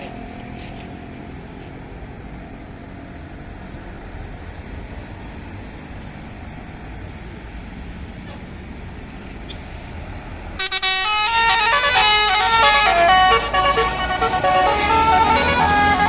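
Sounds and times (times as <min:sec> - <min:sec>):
heavy vehicle engines running: 0:00.0 - 0:16.0
road traffic rumble: 0:00.0 - 0:16.0.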